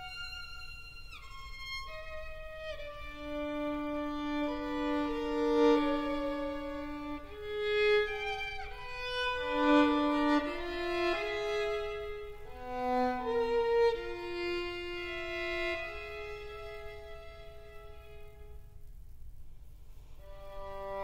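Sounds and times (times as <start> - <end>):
solo violin playing held notes: 0.0 - 18.7, 20.2 - 21.0.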